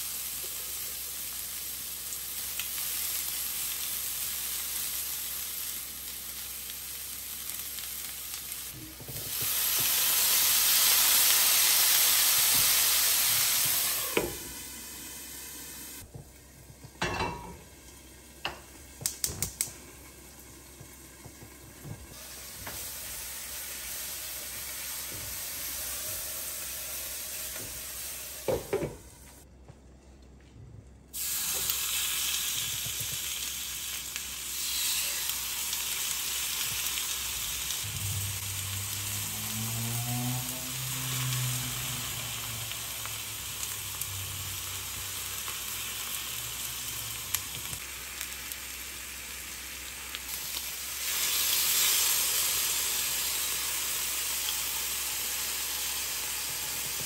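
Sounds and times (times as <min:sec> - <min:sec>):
food sizzling in oil: 0:00.0 - 0:16.0, 0:17.0 - 0:29.0, 0:31.2 - 0:57.0.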